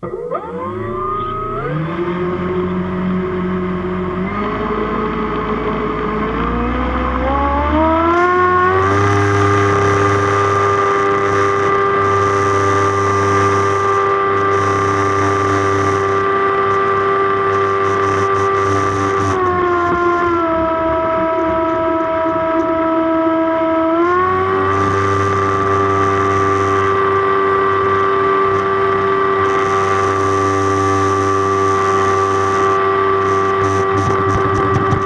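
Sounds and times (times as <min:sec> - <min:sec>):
electric motor and propeller whining: 0:00.0 - 0:35.0.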